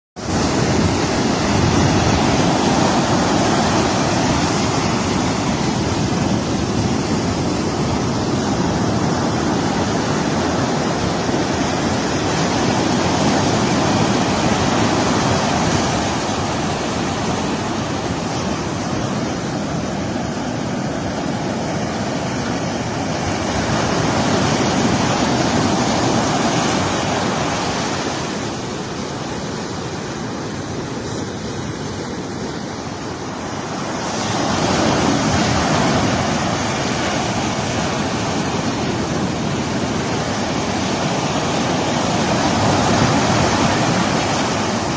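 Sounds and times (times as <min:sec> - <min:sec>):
ocean waves breaking: 0:00.2 - 0:44.9.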